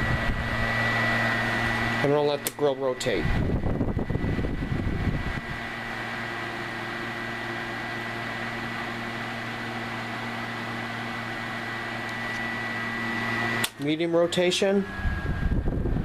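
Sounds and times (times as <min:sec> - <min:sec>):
box fan running: 0:00.0 - 0:16.0.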